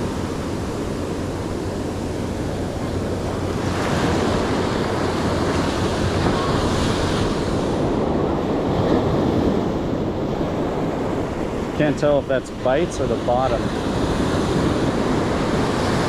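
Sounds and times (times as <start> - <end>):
surf breaking on beach: 0.0 - 16.0
wind on microphone: 0.0 - 16.0.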